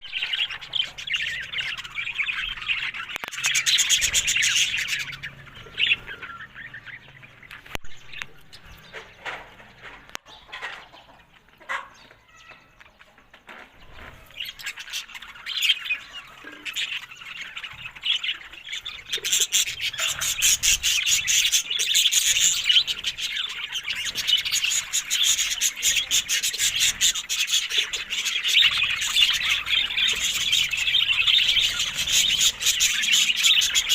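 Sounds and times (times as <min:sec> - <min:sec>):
budgerigars chattering and chirping: 0:00.0 - 0:13.2, 0:13.8 - 0:33.9.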